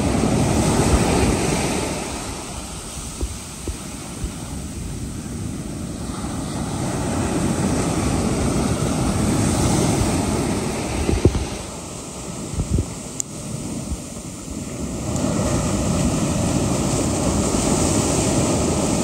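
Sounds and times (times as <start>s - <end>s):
ocean surf breaking on sand: 0.0s - 19.0s
wind on microphone: 0.0s - 19.0s.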